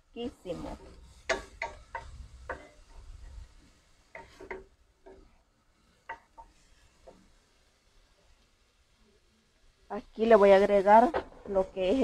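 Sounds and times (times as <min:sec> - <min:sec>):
wooden spoon scraping a pot: 0:00.5 - 0:08.6, 0:10.1 - 0:12.0.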